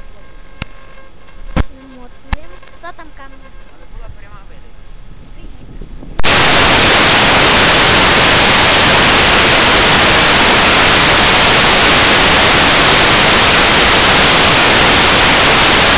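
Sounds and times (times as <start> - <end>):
white-noise static hiss: 0.0 - 15.9.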